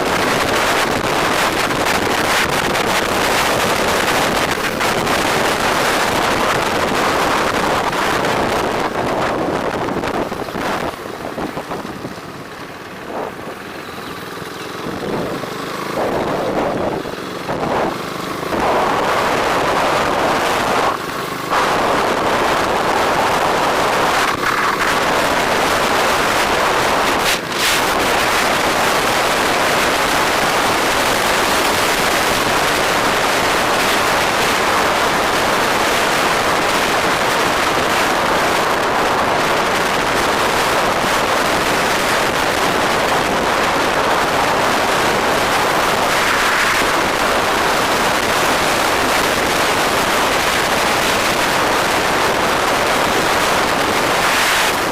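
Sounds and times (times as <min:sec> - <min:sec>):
wind rushing over microphone: 0:00.0 - 0:13.7, 0:14.7 - 0:54.9
road and traffic noise: 0:00.0 - 0:54.9.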